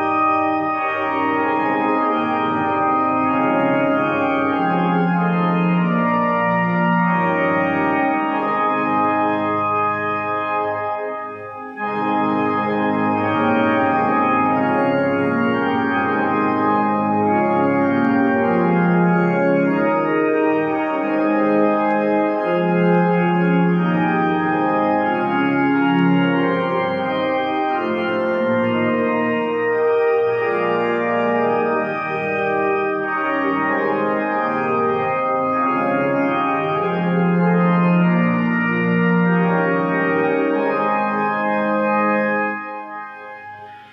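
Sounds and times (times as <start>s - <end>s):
organ playing slow held chords: 0.0s - 43.9s.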